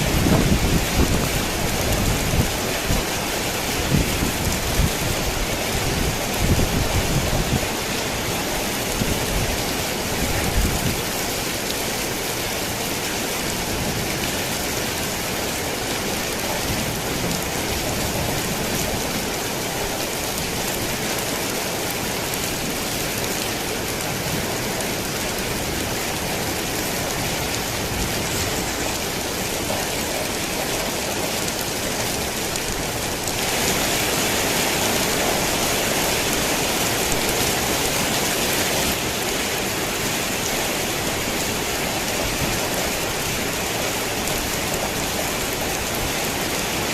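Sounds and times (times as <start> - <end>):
rain on a tin roof: 0.0 - 46.9.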